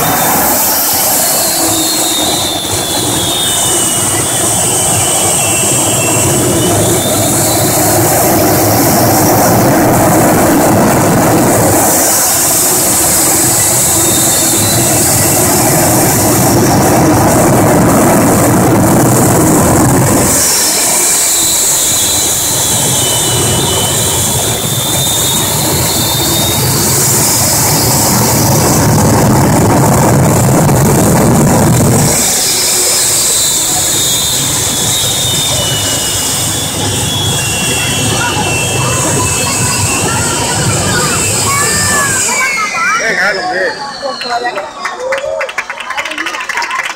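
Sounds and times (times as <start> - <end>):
jet turbine engine whine: 0.0 - 45.8.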